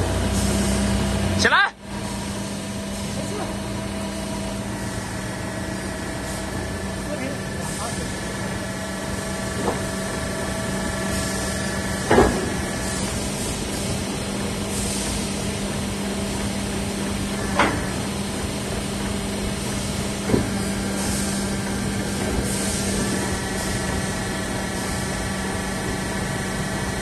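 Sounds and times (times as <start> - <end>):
hydraulic power unit humming: 0.0 - 27.0.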